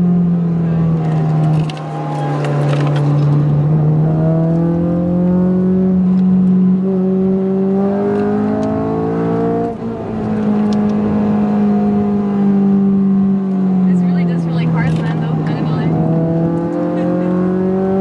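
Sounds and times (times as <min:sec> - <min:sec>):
car engine pulling under load: 0:00.4 - 0:18.0.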